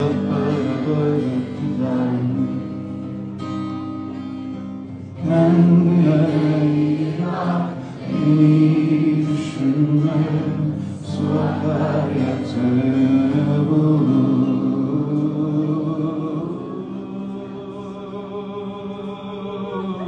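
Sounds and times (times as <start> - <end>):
song with singing: 0.0 - 3.5, 5.0 - 20.0.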